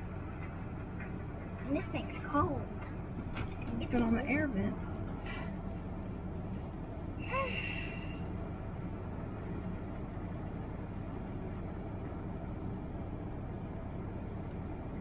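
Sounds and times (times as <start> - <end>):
vehicle engine low hum: 0.0 - 15.0.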